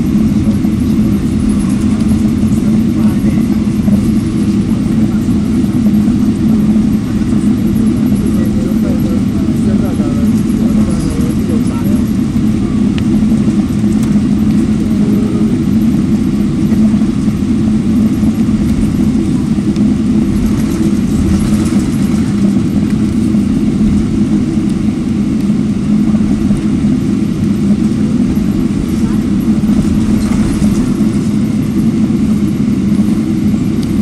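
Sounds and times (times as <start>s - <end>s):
airliner cabin rumble: 0.0s - 34.0s
jet engines humming: 0.0s - 34.0s.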